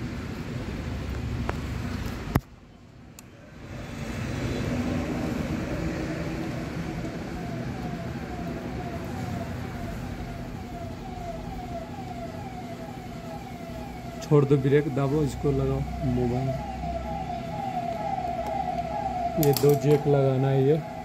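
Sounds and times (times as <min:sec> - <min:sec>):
background traffic: 0:00.0 - 0:21.0
workshop noise: 0:03.7 - 0:21.0
falling electronic siren tone: 0:03.8 - 0:21.0.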